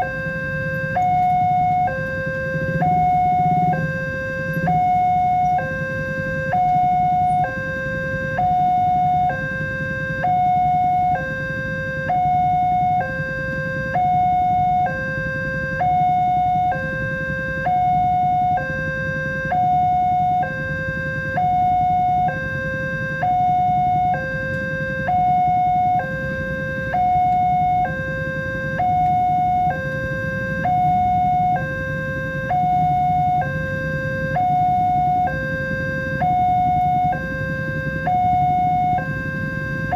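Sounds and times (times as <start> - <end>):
two-tone crossing alarm chime: 0.0 - 39.9.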